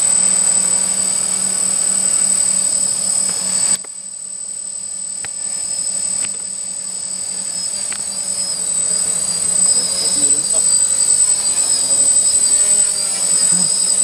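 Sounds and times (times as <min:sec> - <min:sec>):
quadcopter motors humming: 0:00.0 - 0:14.0.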